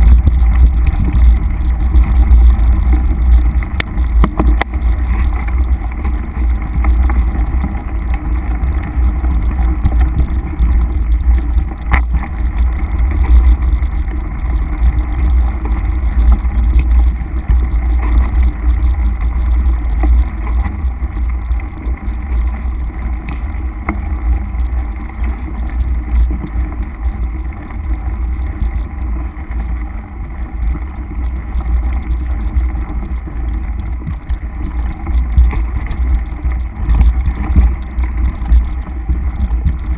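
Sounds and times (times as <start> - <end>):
bike rattling clicks: 0.0 - 39.9
wind rumble on microphone: 0.0 - 39.9.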